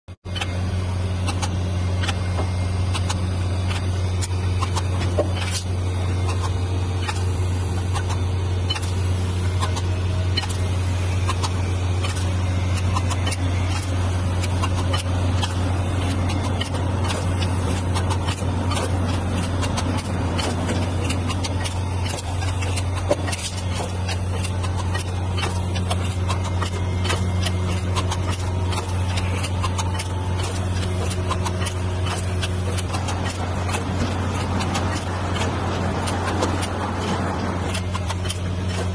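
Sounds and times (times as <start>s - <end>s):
machine humming: 0.2s - 38.9s.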